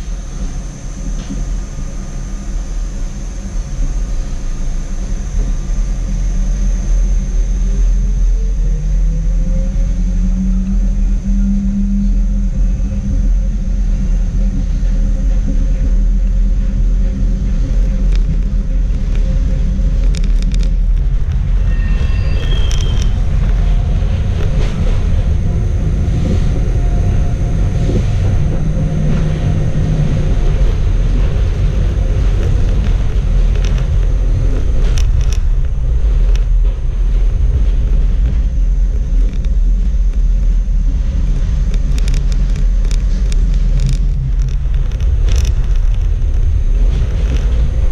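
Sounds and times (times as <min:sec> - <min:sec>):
tram wheels rumbling: 0:00.0 - 0:47.9.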